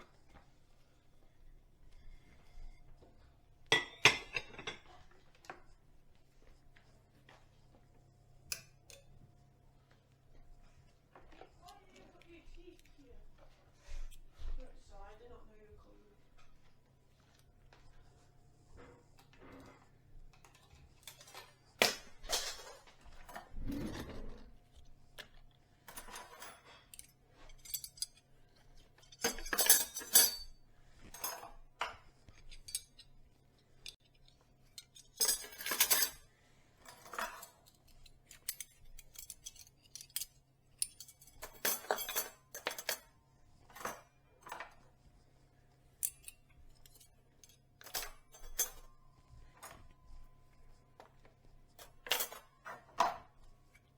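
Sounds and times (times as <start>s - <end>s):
dishes and cutlery clinking: 1.8s - 7.8s, 8.4s - 15.0s, 16.3s - 53.9s.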